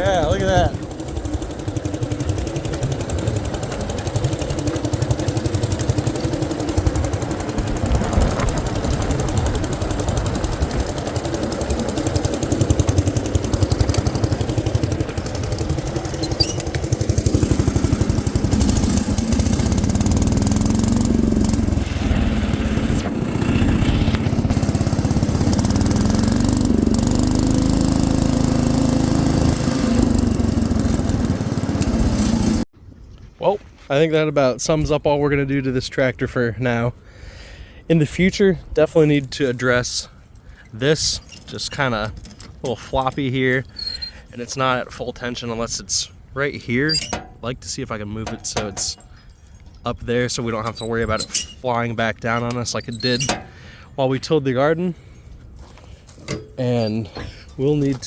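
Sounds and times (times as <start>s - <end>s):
garden tractor engine labouring: 0.0s - 32.7s, 37.2s - 58.0s.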